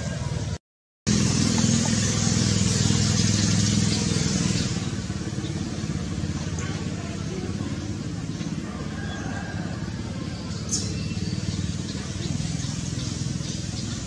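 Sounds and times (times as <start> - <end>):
motor vehicle engine humming: 0.0 - 14.0.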